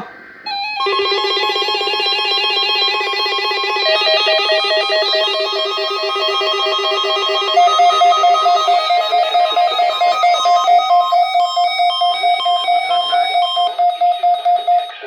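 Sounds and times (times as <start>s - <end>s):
harsh buzzing alert tone: 0.0s - 15.0s
high beeping pattern: 0.5s - 15.0s
rapid pulsing beeps: 0.5s - 15.0s.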